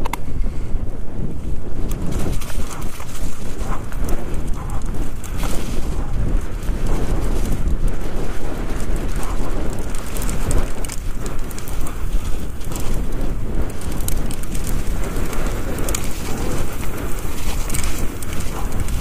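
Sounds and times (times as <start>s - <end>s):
bike clicks and knocks: 0.0s - 0.4s, 1.8s - 19.0s
wind buffeting microphone: 0.0s - 19.0s.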